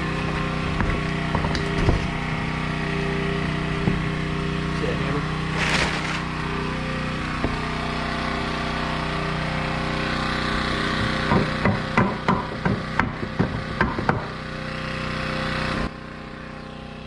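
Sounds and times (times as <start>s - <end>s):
steady engine-like drone: 0.0s - 17.0s.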